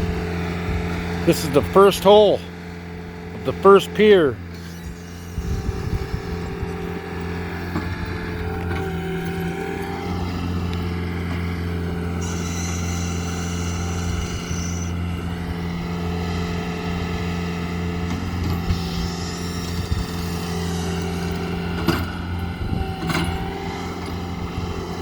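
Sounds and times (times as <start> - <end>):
engine running under load: 0.0 - 25.0.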